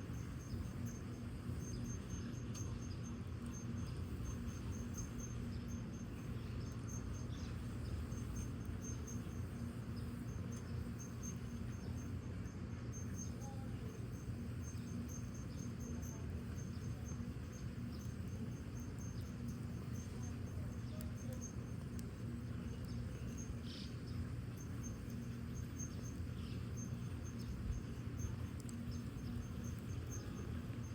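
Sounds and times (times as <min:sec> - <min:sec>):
crickets chirping: 0:00.0 - 0:30.9
low steady rumble: 0:00.0 - 0:30.9
wood fire crackles: 0:00.0 - 0:30.9.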